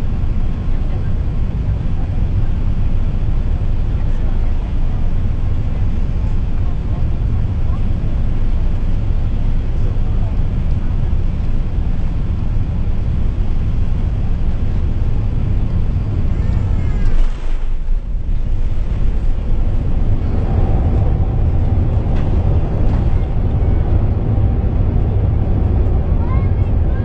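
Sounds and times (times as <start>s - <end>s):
airliner cabin roar: 0.0s - 27.0s.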